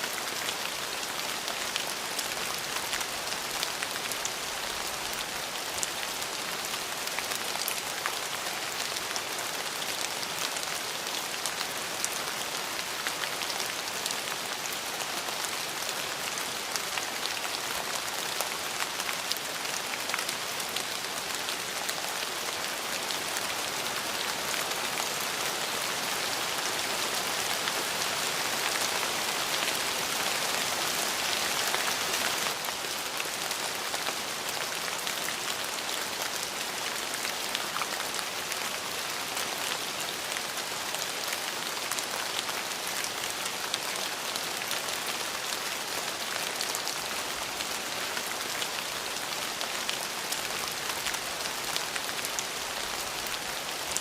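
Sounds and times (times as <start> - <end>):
rain patter on a surface: 0.0 - 54.0.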